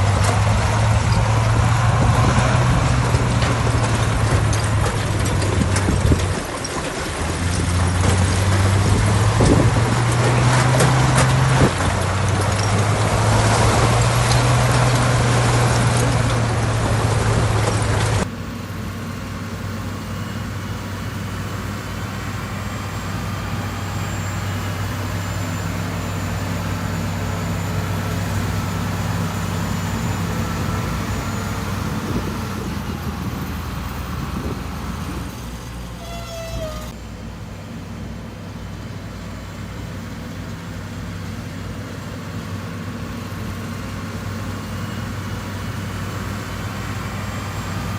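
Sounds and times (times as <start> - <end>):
diesel machinery engine drone: 0.0 - 47.9.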